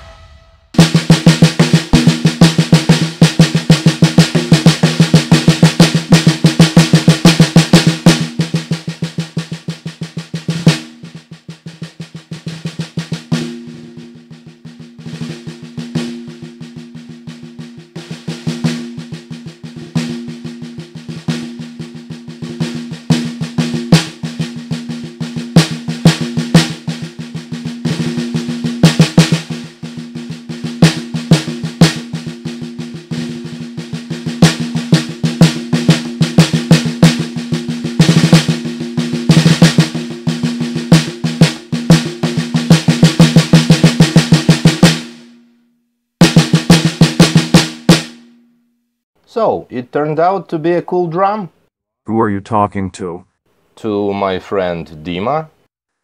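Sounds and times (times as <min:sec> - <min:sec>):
snare drum played with sticks: 0:00.0 - 0:45.3, 0:46.2 - 0:48.3.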